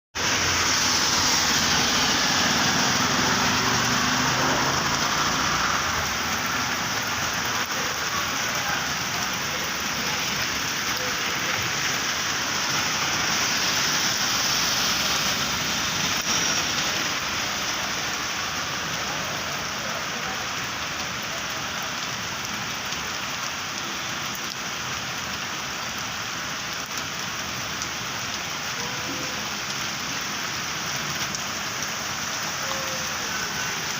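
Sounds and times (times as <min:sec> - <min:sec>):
rain spattering on standing water: 0:00.2 - 0:33.9.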